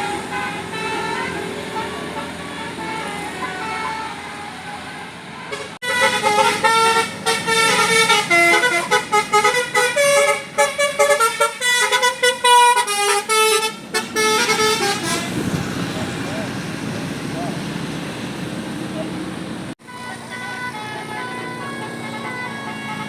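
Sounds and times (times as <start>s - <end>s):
bus horn playing a tune: 0.0s - 16.2s, 19.8s - 23.0s
vehicle sound: 0.0s - 23.0s.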